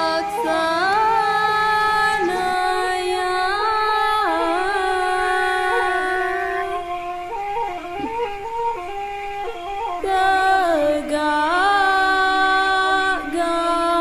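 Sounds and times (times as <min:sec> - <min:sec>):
high voice singing held notes: 0:00.0 - 0:14.0.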